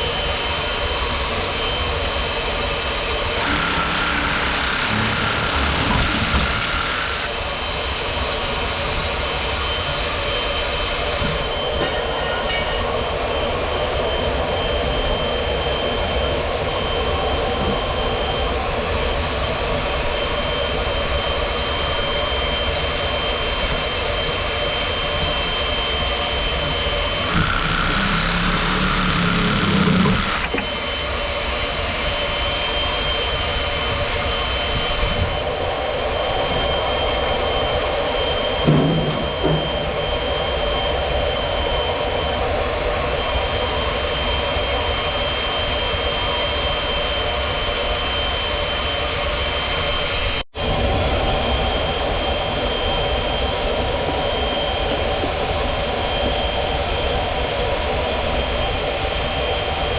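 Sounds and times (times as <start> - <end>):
machine running with rumble and whine: 0.0 - 59.9.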